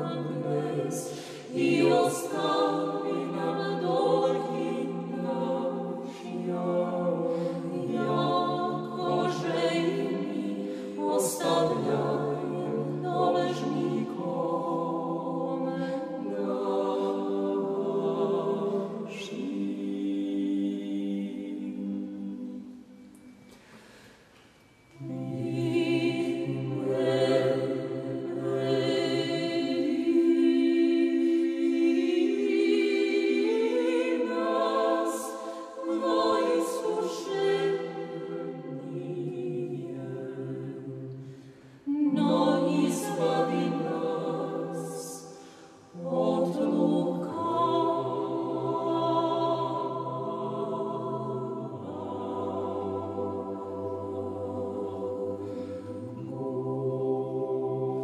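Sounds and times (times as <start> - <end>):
a cappella choir chanting: 0.0 - 58.0.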